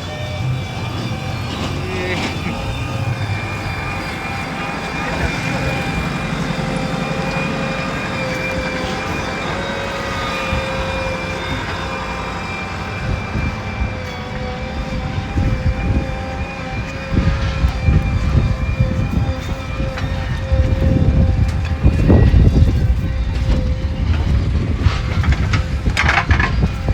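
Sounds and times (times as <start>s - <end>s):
diesel machinery whine: 0.0s - 26.9s
low rumbles and knocks: 0.3s - 26.9s.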